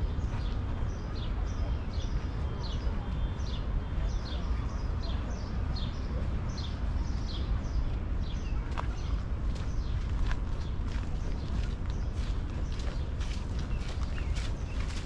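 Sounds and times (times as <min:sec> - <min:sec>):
songbird chirping: 0:00.0 - 0:15.0
steady low rumble: 0:00.0 - 0:15.0.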